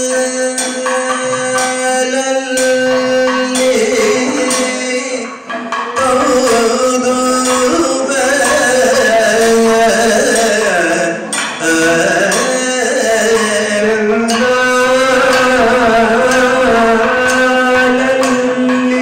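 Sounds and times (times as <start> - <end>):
cymbal or gong beats: 0.0 - 19.0
drum strokes: 0.0 - 19.0
men chanting slow song: 0.0 - 19.0.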